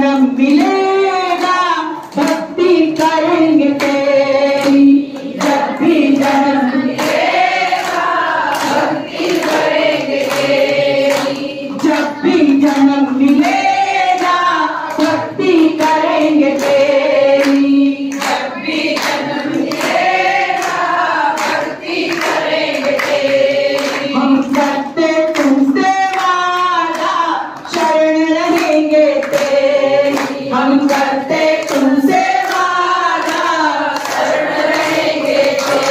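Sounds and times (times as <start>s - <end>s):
group singing devotional song: 0.0s - 35.9s
hand claps: 0.4s - 35.9s.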